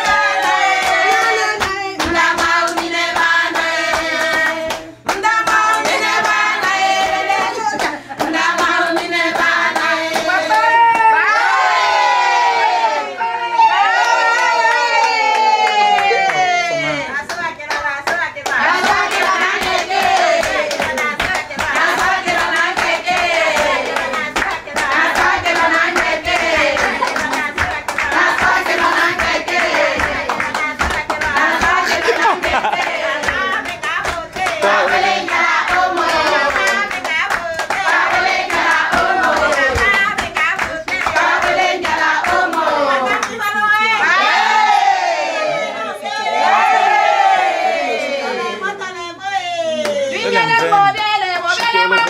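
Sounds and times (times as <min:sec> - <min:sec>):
rhythmic hand clapping: 0:00.0 - 0:11.4, 0:13.9 - 0:44.4, 0:51.2 - 0:52.0
people singing together: 0:00.0 - 0:48.8.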